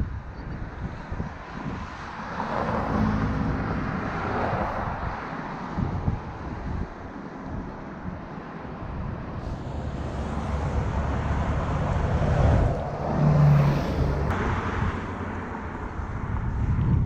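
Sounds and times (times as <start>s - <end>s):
road noise from riding: 0.0s - 17.0s
wind noise: 0.0s - 17.0s.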